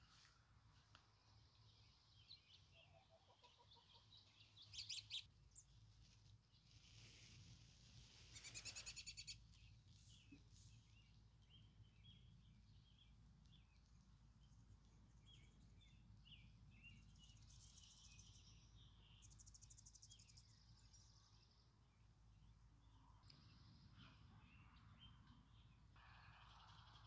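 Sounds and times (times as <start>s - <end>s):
songbirds trilling and chirping: 0.9s - 27.0s.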